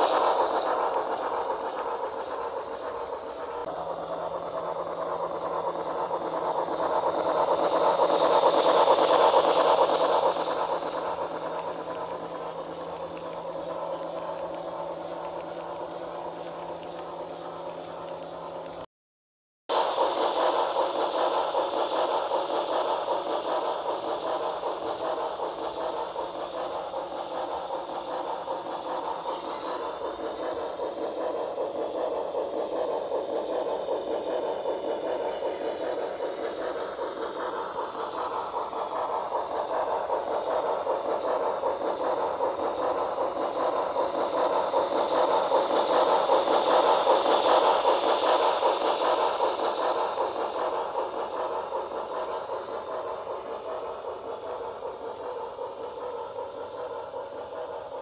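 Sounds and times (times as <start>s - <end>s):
model train wheels rattling on track: 0.0s - 18.8s, 19.7s - 58.0s
model steam locomotive sounds: 0.0s - 18.9s, 19.7s - 58.0s.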